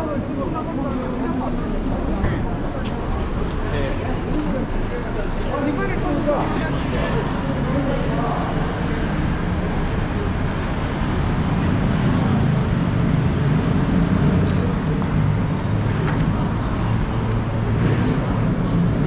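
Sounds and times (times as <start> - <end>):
city street traffic: 0.0 - 19.0
vehicle engine running: 0.0 - 19.0.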